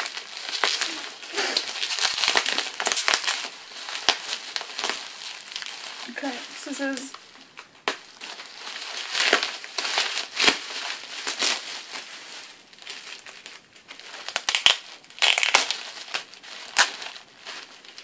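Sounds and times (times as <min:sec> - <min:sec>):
wrapping paper crinkling: 0:00.0 - 0:18.0.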